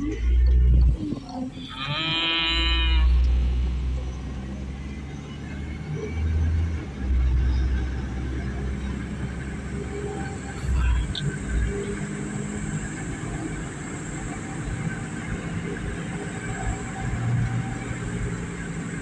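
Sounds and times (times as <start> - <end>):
engine and road rumble: 0.0 - 19.0
power steering pump whine: 0.0 - 19.0.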